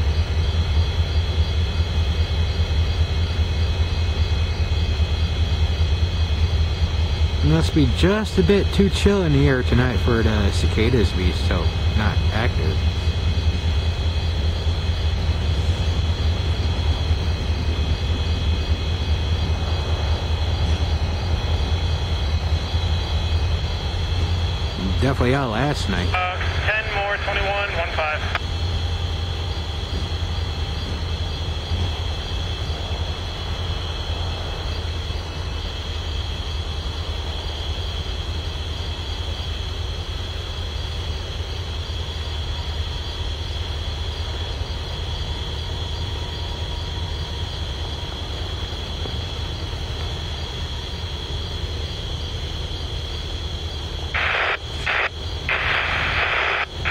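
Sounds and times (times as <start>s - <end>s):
diesel locomotives idling: 0.0s - 56.9s
night insects droning: 0.0s - 56.9s.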